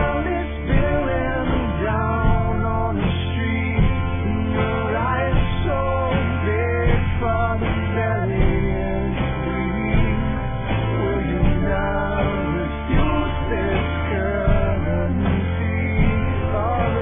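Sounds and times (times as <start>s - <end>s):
instrumental guitar rock music: 0.0s - 17.0s.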